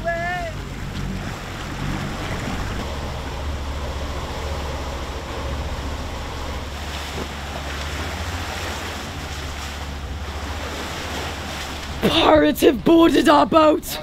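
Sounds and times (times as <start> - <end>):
waves and water rushing: 0.0 - 14.0
wind buffeting microphone: 0.0 - 14.0.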